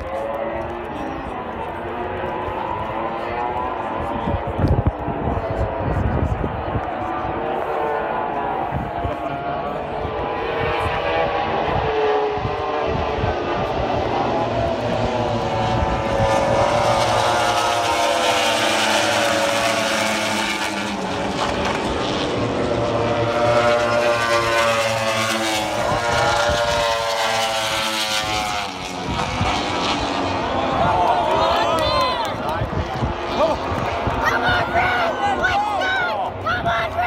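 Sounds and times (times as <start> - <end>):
racing motorcycles passing: 0.0 - 37.0.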